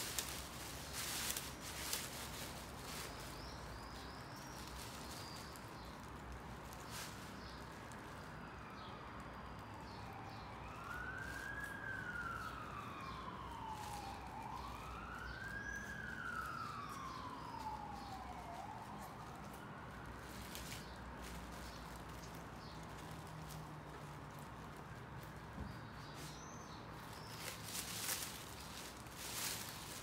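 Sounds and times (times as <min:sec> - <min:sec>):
faint siren wailing: 0:00.0 - 0:30.0.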